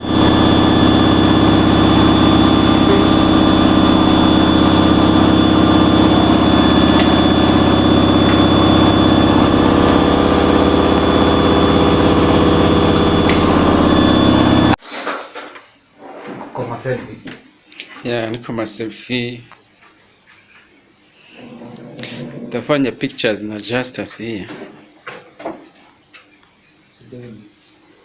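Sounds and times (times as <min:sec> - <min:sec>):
washing machine humming and whining: 0:00.0 - 0:14.8, 0:19.7 - 0:28.0.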